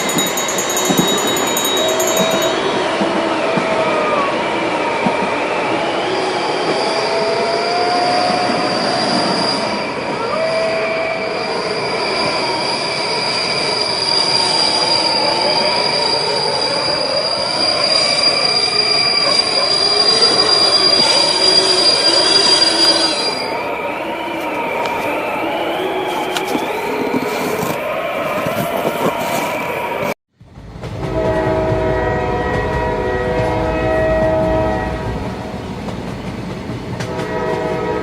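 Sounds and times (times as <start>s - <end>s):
low wavering wails: 0.0s - 30.1s, 31.0s - 35.6s
high screech of train wheels: 0.0s - 30.2s, 31.1s - 35.6s.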